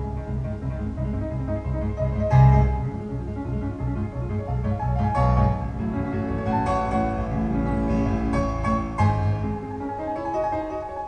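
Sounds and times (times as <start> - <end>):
classical music over loudspeakers: 0.0 - 11.0.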